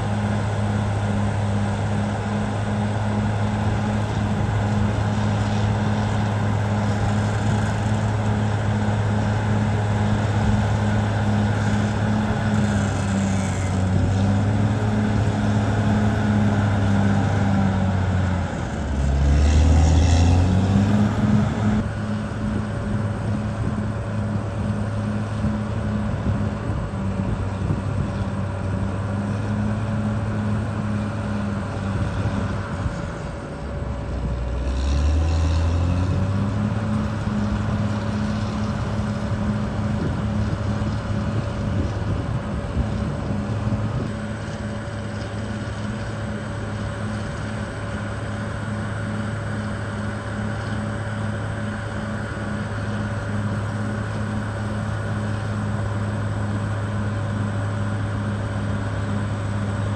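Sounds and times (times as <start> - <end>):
bulldozer diesel engine running: 0.0 - 59.9
constant high whine: 0.0 - 59.9.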